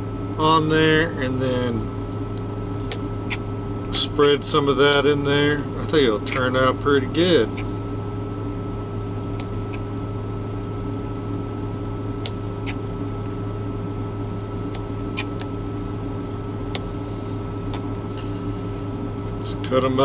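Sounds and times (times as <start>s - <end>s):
truck machinery humming: 0.0s - 20.0s.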